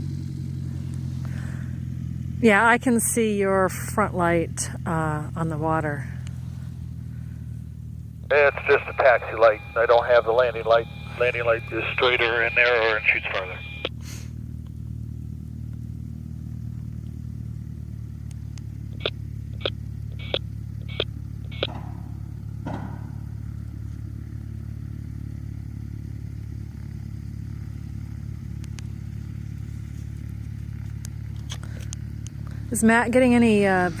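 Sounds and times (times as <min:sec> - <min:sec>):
plane engine droning: 0:00.0 - 0:34.0.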